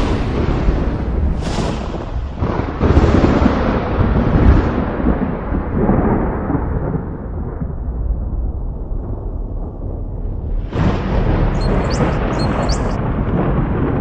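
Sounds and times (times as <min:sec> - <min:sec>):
thunder cracks and rumble: 0:00.0 - 0:14.0.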